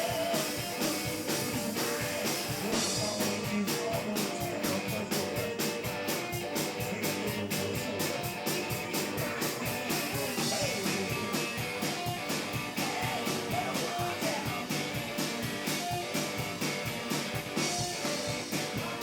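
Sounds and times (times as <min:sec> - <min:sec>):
blues guitar: 0:00.0 - 0:19.0
driving drum beat: 0:00.0 - 0:19.0.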